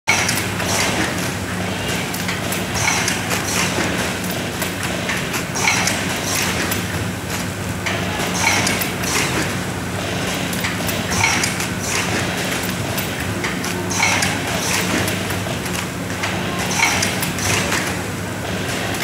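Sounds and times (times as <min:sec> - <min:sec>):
machine clacks with short hiss: 0:00.1 - 0:19.0
packing machine hum: 0:00.1 - 0:19.0.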